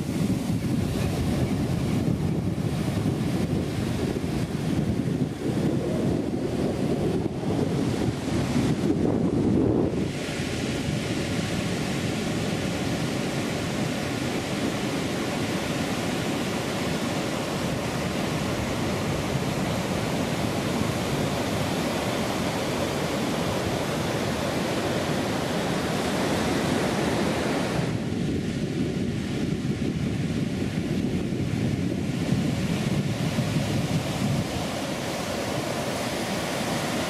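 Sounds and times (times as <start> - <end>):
ocean surf on sandy beach: 0.0 - 37.0.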